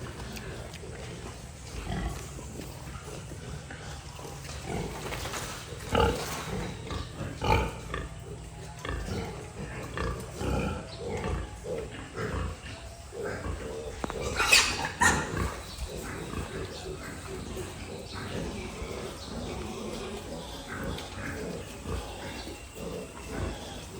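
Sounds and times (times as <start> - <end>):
pigs grunting: 0.0 - 23.9.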